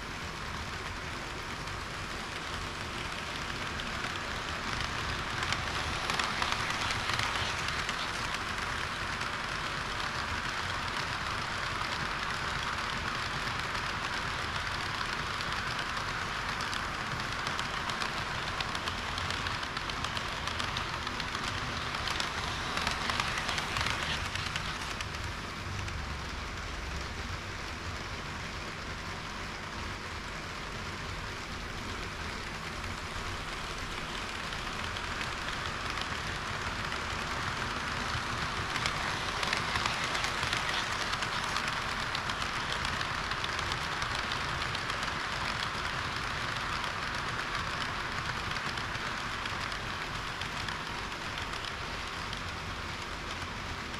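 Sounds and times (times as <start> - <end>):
model train wheels rolling on rails: 0.0 - 53.9.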